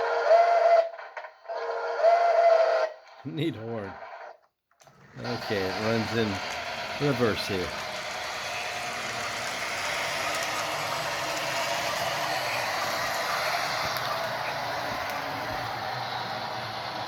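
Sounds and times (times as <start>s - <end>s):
model locomotive running on rails: 0.0s - 17.0s.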